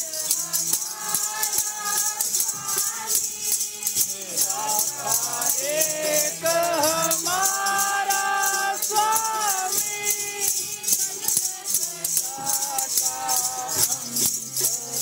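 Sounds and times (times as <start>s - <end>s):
jingling rattle: 0.0s - 15.0s
person singing a held melody: 0.0s - 15.0s.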